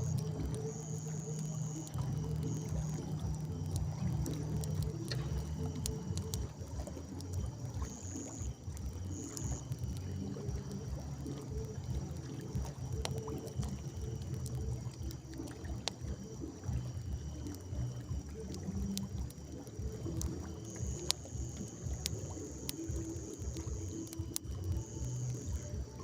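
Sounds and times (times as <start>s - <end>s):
campfire crackling and popping: 0.0s - 26.0s
low uneven rumble: 0.0s - 26.0s
night insects trilling: 0.0s - 26.0s.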